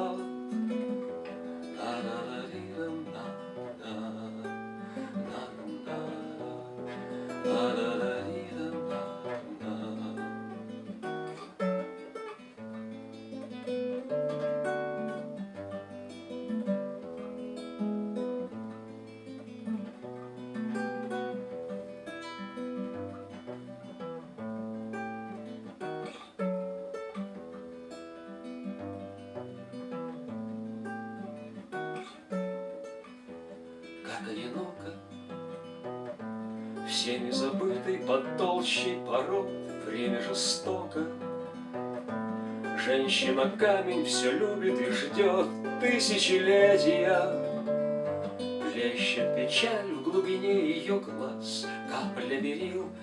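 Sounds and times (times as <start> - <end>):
acoustic guitar playing: 0.0 - 53.0.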